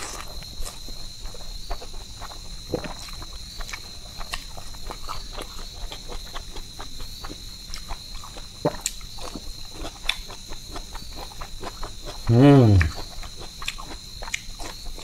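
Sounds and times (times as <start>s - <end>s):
person chewing with wet clicks: 0.0s - 15.0s.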